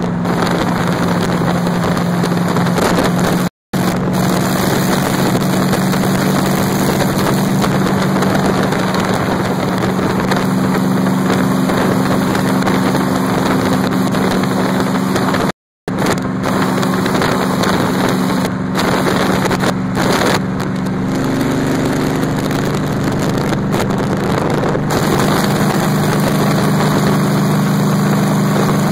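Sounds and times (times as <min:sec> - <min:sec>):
truck engine droning: 0:00.0 - 0:28.9
wind rushing: 0:00.0 - 0:28.9.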